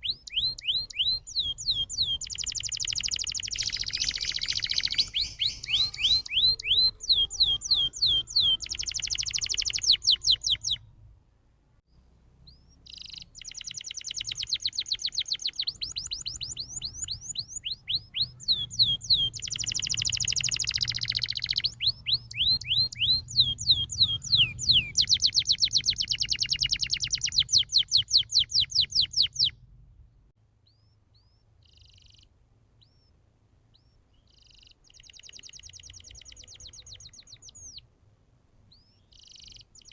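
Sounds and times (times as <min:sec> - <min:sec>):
canary singing trills: 0:00.0 - 0:10.9, 0:12.4 - 0:29.6, 0:30.6 - 0:37.9, 0:38.7 - 0:39.9.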